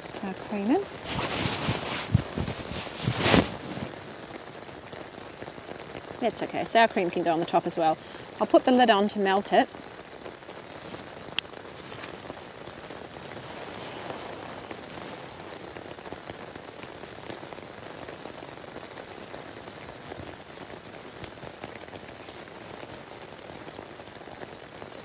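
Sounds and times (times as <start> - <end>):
outdoor ambient hiss: 0.0 - 25.0.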